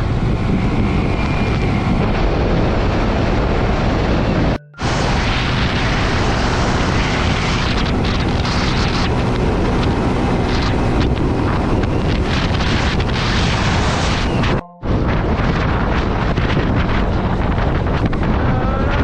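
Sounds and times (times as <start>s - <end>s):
wind buffeting on microphone: 0.0s - 19.0s.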